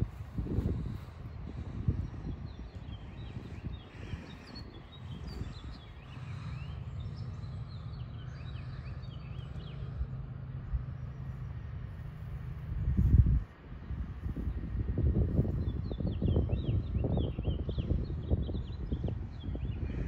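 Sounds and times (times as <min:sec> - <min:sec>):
low rumble on microphone: 0:00.0 - 0:20.0
small birds chirping and singing: 0:00.0 - 0:20.0
steady low hum: 0:00.0 - 0:20.0.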